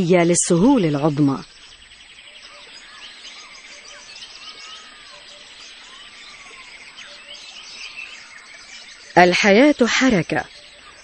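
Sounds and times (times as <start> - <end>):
birds chirping: 0.0 - 11.0
open-country ambience: 0.0 - 11.0.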